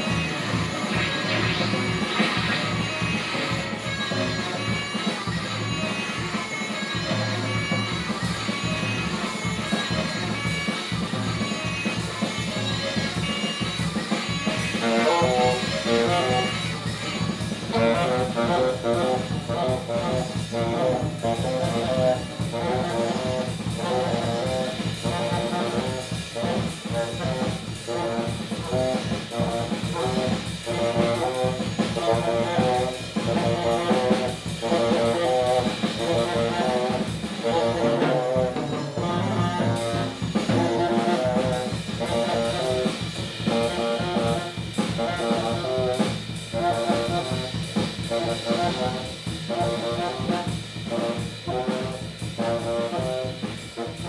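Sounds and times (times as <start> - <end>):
drum kit playing: 0.0 - 54.0
tenor saxophone: 0.0 - 54.0.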